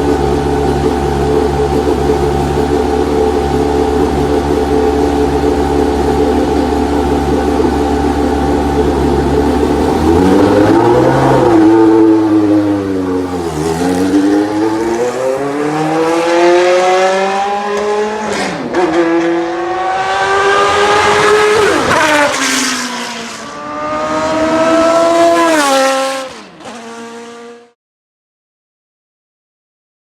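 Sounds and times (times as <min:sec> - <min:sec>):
racing car engine revving: 0:00.0 - 0:27.8.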